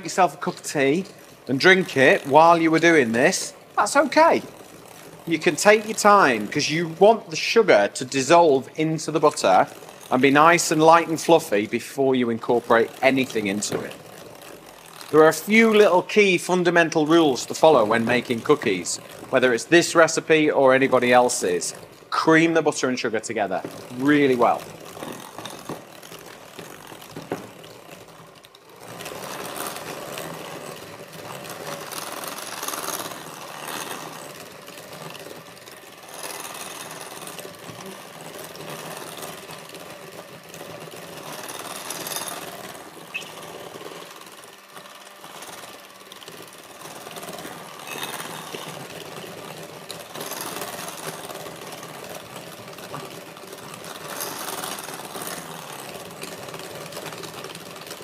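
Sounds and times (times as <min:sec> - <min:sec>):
electric hand mixer running: 0:00.0 - 0:58.0.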